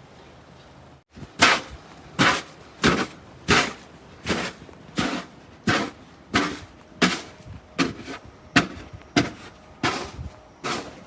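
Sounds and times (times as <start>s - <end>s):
footsteps crunching through snow: 1.1s - 11.0s.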